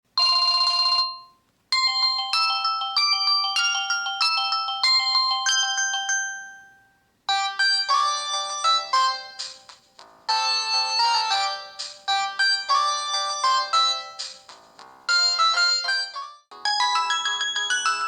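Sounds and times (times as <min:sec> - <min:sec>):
phone ringtone melody: 0:00.2 - 0:09.6, 0:10.3 - 0:14.4, 0:15.1 - 0:18.0.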